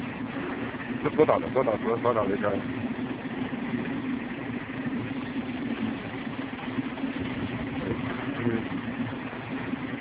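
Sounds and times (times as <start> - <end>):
vibrating sieve humming: 0.0 - 10.0.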